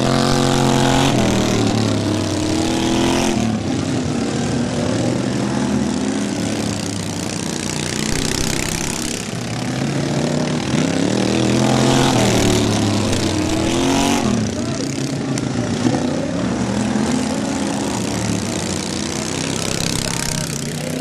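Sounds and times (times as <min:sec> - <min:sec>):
racing lawn mower engines: 0:00.0 - 0:21.0.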